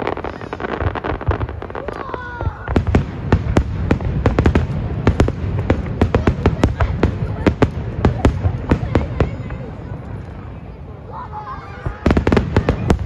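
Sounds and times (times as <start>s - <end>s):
firework crackle: 0.0s - 13.0s.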